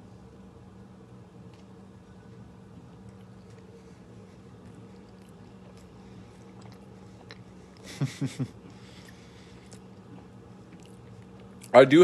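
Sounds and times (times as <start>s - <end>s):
low steady hum: 0.0s - 12.0s
person chewing pizza: 1.3s - 11.9s.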